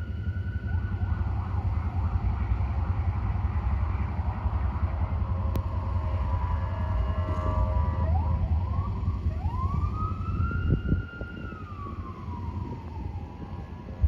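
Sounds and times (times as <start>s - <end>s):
emergency vehicle siren wailing: 0.0s - 14.0s
low steady rumble: 0.0s - 14.0s.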